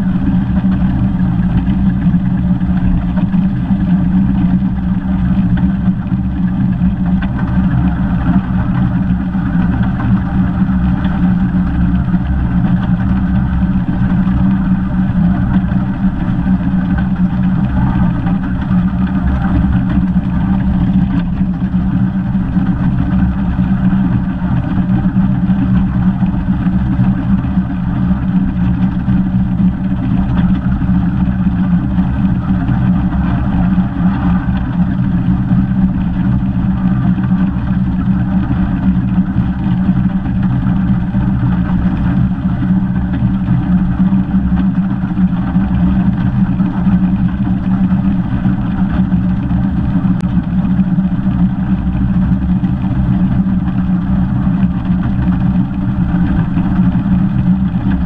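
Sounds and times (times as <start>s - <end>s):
steam locomotive rumbling on track: 0.0s - 58.0s.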